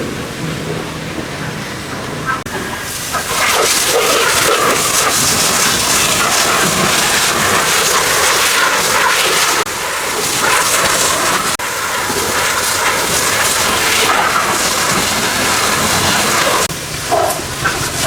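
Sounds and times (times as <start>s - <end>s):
pressure washer spraying car: 0.0s - 18.0s.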